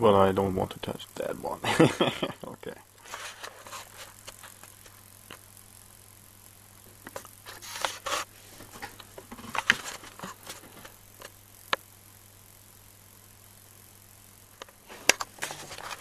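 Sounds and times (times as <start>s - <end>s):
faint low hum: 0.0s - 16.0s
spark gap crackling: 0.5s - 16.0s.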